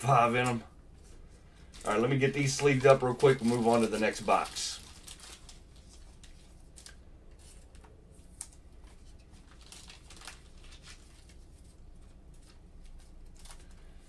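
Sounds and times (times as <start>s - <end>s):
plastic sleeves rustling: 0.0s - 14.0s.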